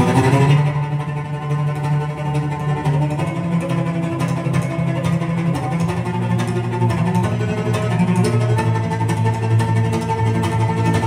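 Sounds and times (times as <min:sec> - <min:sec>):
string music led by cello: 0:00.0 - 0:11.0.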